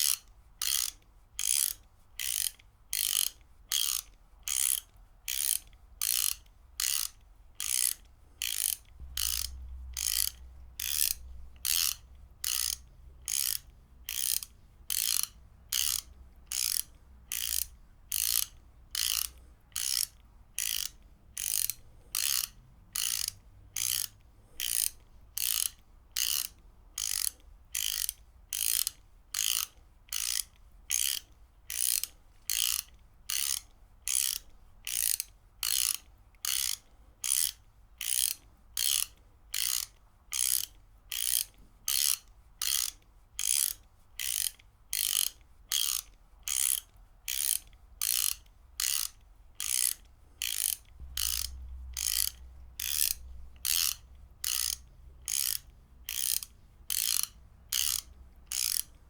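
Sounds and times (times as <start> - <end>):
ratchet wrench clicking: 0.0 - 59.0.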